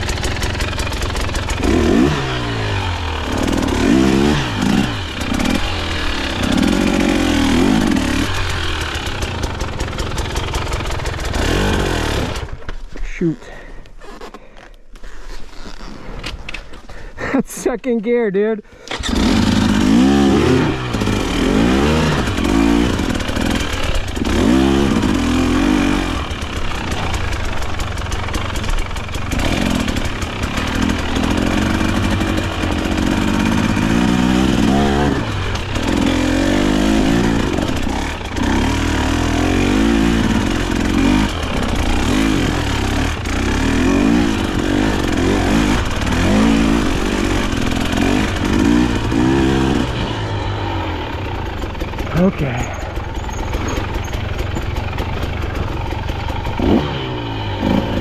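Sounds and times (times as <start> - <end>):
motorcycle engine revving: 0.0 - 12.7, 18.9 - 58.0.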